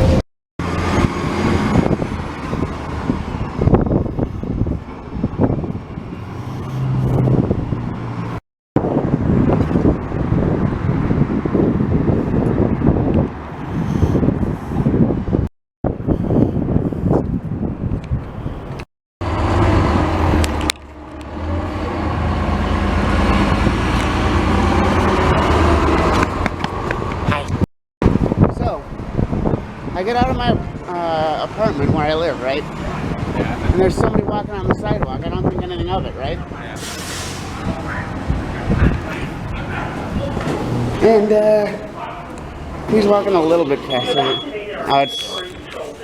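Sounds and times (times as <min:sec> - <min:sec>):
vehicle road and engine noise: 0:00.0 - 0:46.0.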